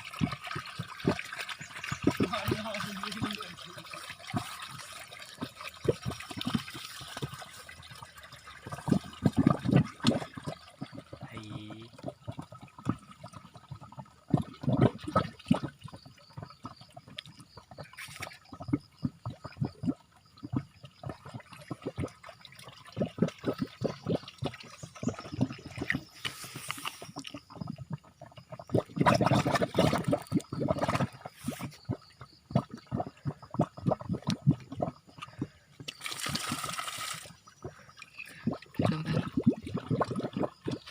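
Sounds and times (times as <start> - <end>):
water gurgling and spurting: 0.0 - 40.9.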